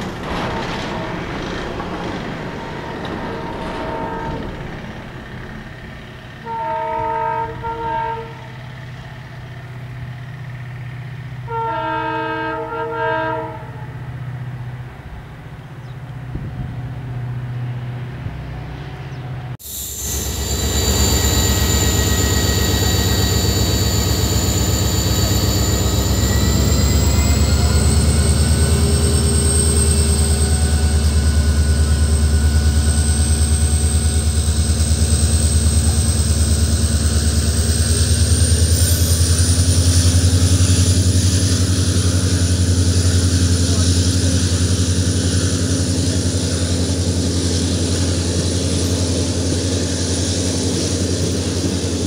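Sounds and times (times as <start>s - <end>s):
diesel locomotive engine throb: 0.0s - 52.0s
quiet locomotive engine hum: 0.0s - 52.0s.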